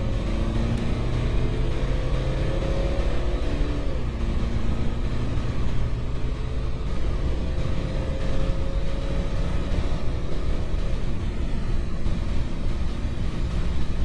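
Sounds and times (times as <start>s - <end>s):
car engine accelerating: 0.0s - 14.0s
road and wind rumble: 0.0s - 14.0s.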